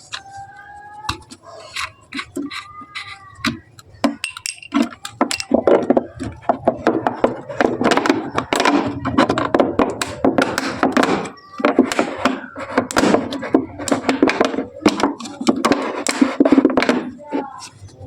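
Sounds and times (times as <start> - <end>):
plastic bottle crackling and clicking: 0.0 - 18.0.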